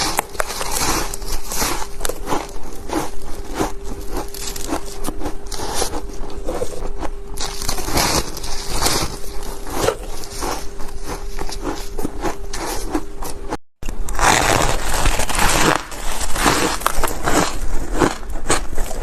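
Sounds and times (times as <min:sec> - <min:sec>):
ice being chewed: 0:00.0 - 0:13.5, 0:14.1 - 0:19.0.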